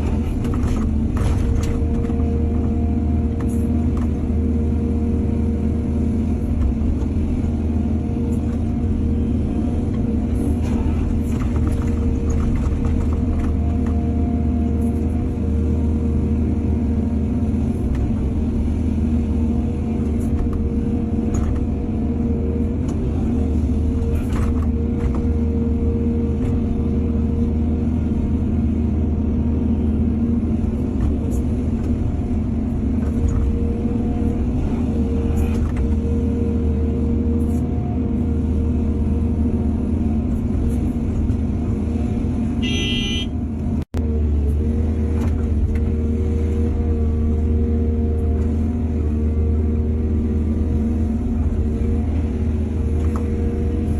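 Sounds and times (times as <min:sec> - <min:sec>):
excavator diesel engine under load: 0:00.0 - 0:53.9.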